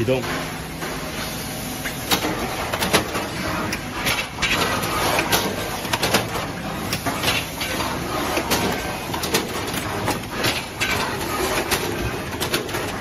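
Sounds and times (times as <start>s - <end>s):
wrapping machine running: 0.0s - 13.0s
sharp mechanical clicks and clatters: 1.8s - 13.0s.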